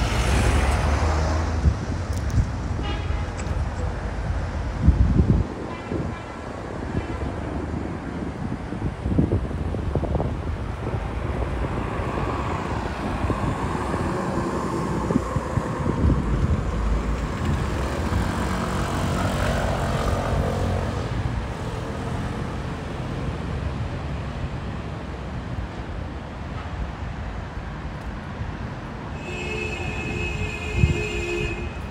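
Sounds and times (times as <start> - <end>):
street rumble: 0.0 - 31.9.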